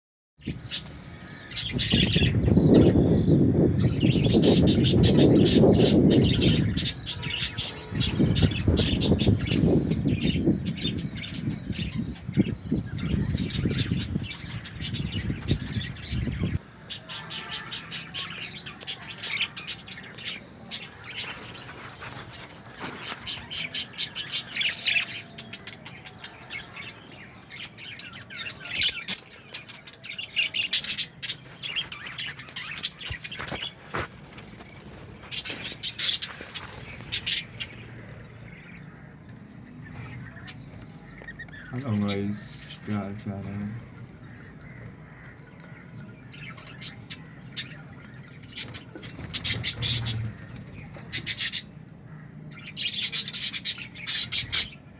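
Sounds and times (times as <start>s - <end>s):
budgerigars chattering and chirping: 0.4s - 54.9s.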